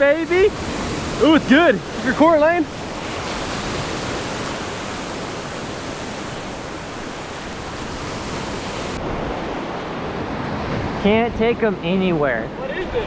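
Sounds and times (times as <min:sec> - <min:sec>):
surf washing and breaking: 0:00.0 - 0:13.0.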